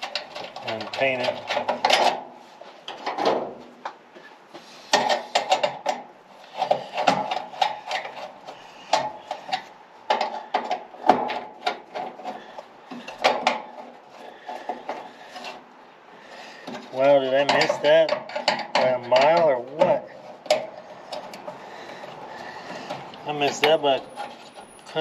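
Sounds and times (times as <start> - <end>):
metal tools clinking and scraping: 0.0 - 3.3, 4.2 - 15.6, 16.2 - 25.0.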